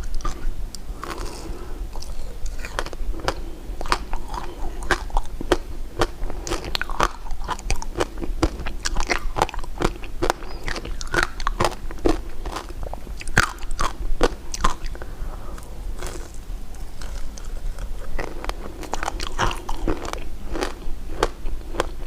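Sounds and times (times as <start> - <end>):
chewing candy: 0.0 - 22.0.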